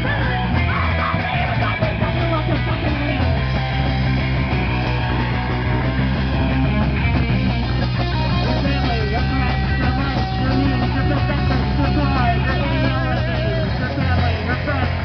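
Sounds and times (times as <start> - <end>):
drum kit: 0.0 - 15.0
electric guitars: 0.0 - 15.0
punk rock band playing: 0.0 - 15.0.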